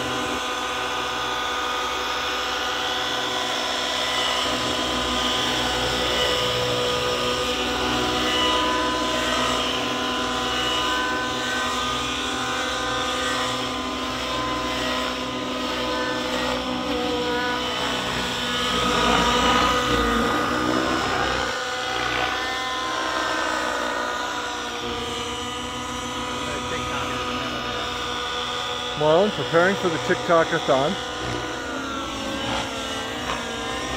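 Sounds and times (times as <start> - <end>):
rc helicopter engines whining: 0.0 - 33.9.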